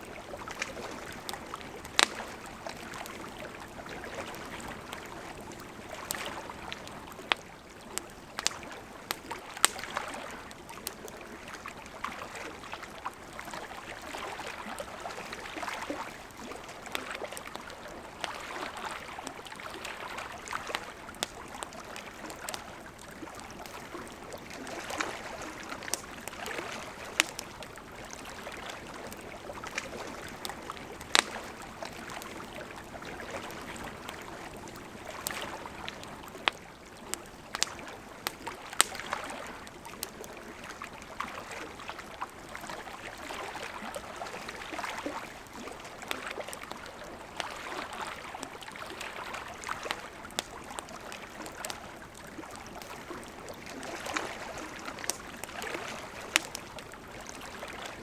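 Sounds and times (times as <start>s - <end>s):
campfire crackling and popping: 0.0s - 58.0s
river gurgling: 0.0s - 58.0s.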